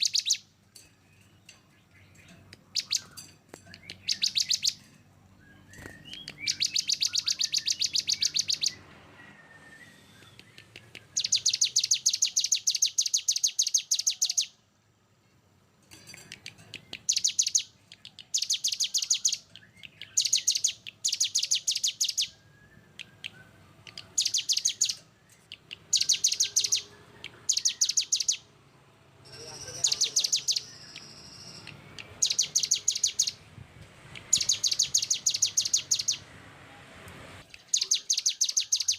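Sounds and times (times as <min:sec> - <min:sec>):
songbird singing rapid trills: 0:00.0 - 0:14.6, 0:16.1 - 0:28.6, 0:29.2 - 0:33.4, 0:34.1 - 0:36.3, 0:37.4 - 0:38.9.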